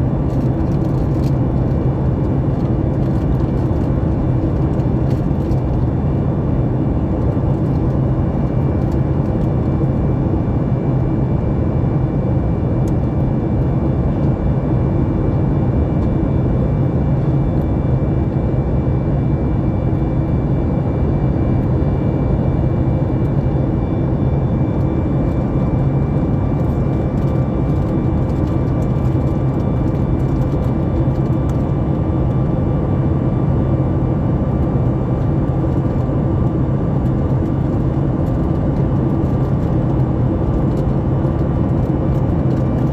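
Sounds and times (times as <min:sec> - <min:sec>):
airliner cabin roar: 0:00.0 - 0:42.9
steady low hum: 0:00.0 - 0:42.9.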